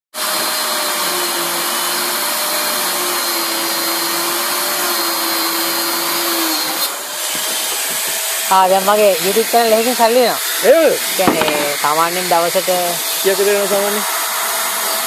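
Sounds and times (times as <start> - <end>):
electric power tool whining: 0.2 - 15.0.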